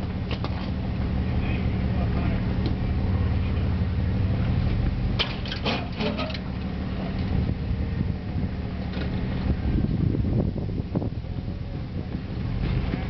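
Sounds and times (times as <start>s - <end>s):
pickup engine rumbling: 0.0s - 13.0s.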